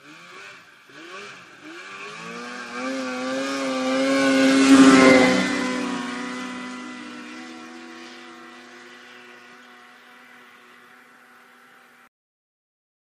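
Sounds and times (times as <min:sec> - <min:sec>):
snowmobile engine revving: 0:00.0 - 0:12.1.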